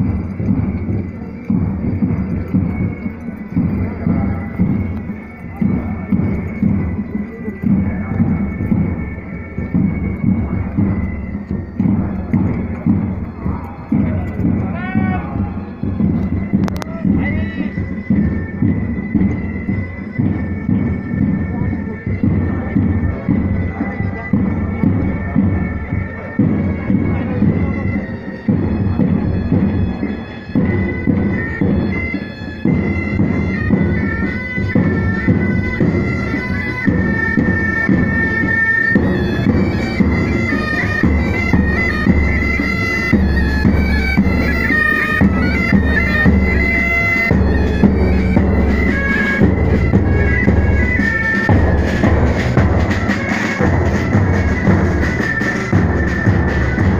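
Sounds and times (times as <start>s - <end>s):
bagpipe melody over drone: 0.0s - 56.9s
drums beating time: 0.0s - 56.9s.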